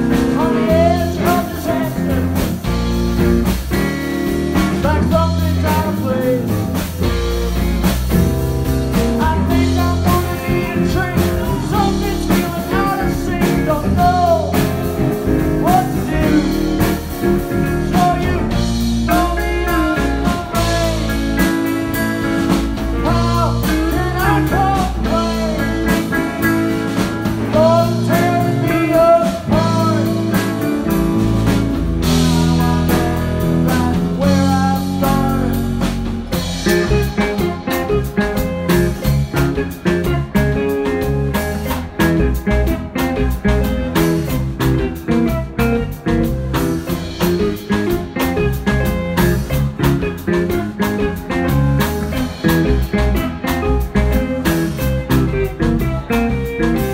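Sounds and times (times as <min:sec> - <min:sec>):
blues-rock music with singing: 0:00.0 - 0:56.9.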